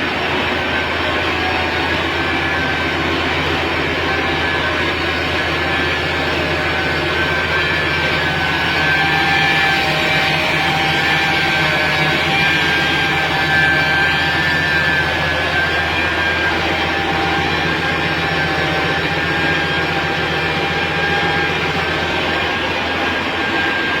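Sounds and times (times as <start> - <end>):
machinery running: 0.0 - 24.0
steady whining tones: 0.0 - 24.0.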